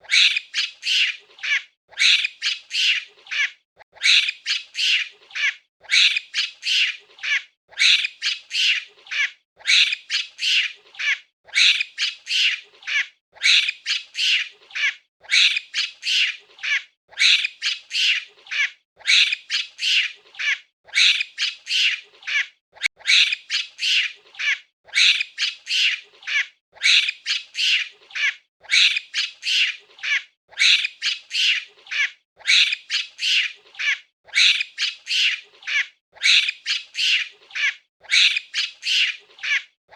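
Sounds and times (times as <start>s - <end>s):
monkey squealing calls: 0.0s - 39.7s.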